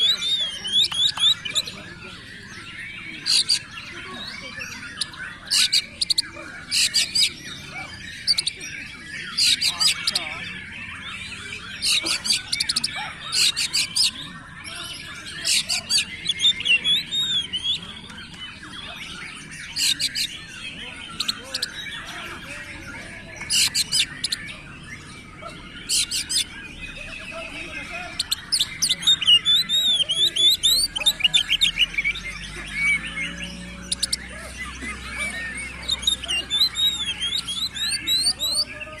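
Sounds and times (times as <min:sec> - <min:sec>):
songbird singing: 0:00.0 - 0:39.0.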